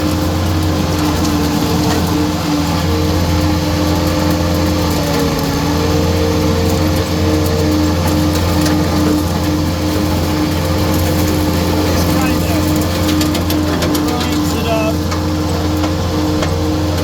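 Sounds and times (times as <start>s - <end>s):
engine drone: 0.0s - 17.0s
hydraulic saw whine: 0.0s - 17.0s.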